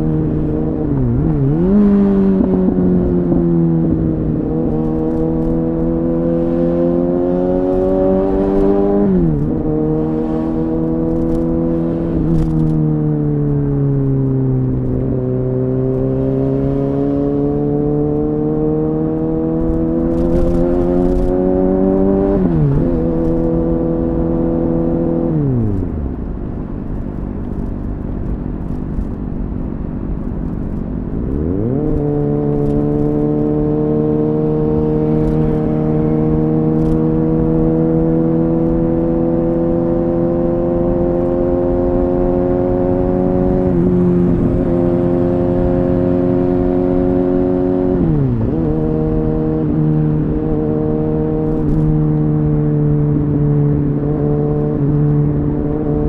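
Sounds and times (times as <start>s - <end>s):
motorcycle engine revving: 0.0s - 29.2s, 30.2s - 56.0s.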